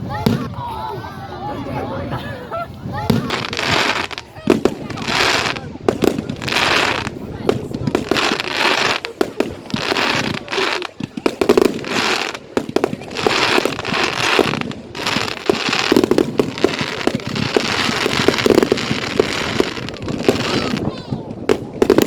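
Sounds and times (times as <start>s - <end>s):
fireworks crackling and popping: 0.0s - 22.0s
fireworks hiss: 3.0s - 22.0s.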